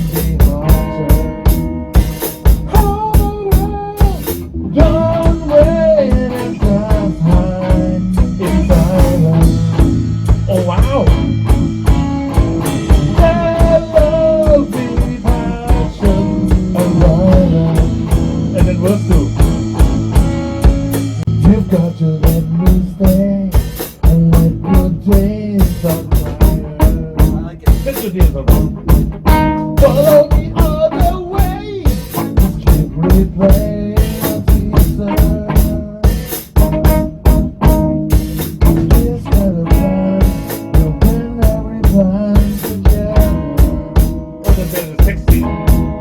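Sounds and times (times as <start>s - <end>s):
drum kit beat: 0.0s - 46.0s
rock band playing: 0.0s - 46.0s.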